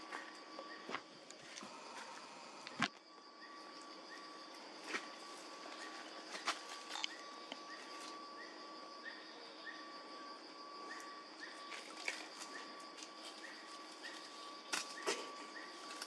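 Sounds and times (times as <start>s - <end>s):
high insect buzz: 0.0s - 16.0s.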